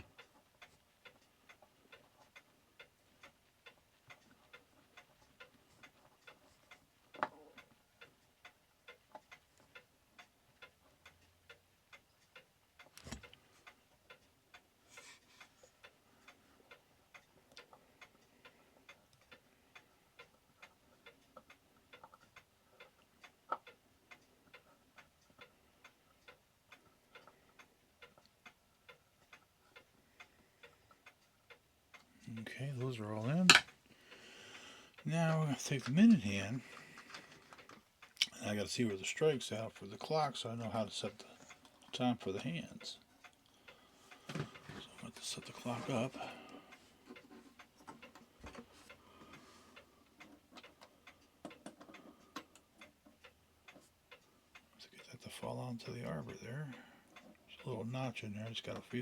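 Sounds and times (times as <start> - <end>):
pendulum clock ticking: 0.0 - 59.0.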